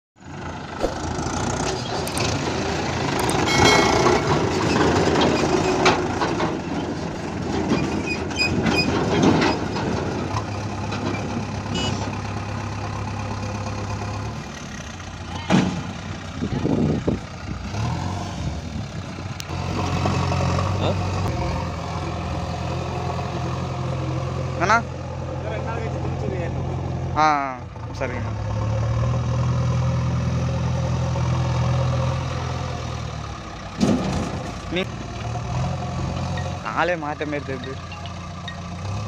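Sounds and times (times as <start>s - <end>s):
diesel engines running: 0.2s - 39.0s.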